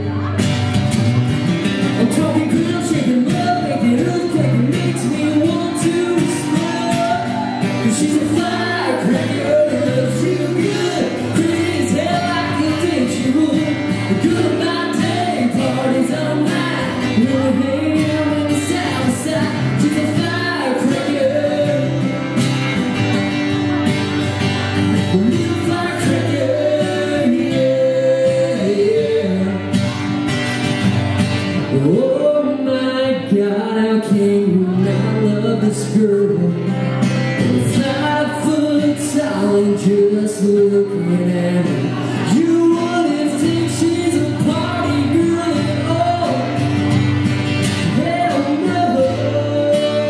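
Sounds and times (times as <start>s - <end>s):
acoustic guitars playing: 0.0s - 50.0s
man singing: 1.8s - 22.6s, 24.8s - 30.0s, 31.5s - 50.0s.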